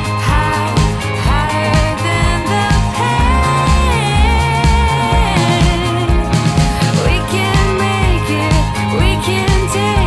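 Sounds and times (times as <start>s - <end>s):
pop song: 0.0s - 10.0s.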